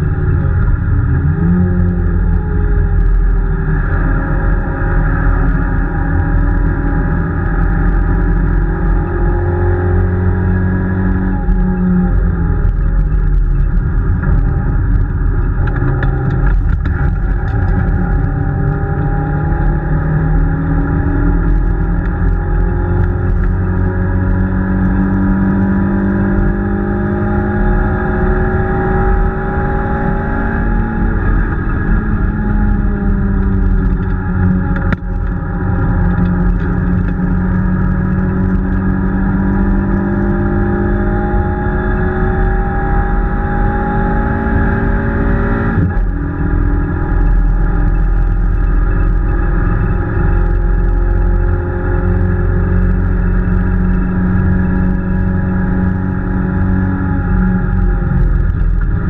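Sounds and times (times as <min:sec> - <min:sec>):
low road rumble: 0:00.0 - 0:59.0
rally car engine running hard: 0:00.0 - 0:59.0.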